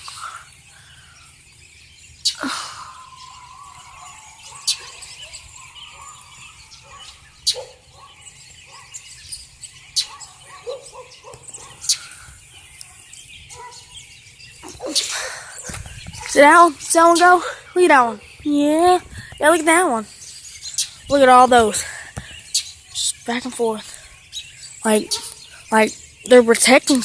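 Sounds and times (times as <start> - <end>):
faint bird chirps and calls: 0.0 - 27.0.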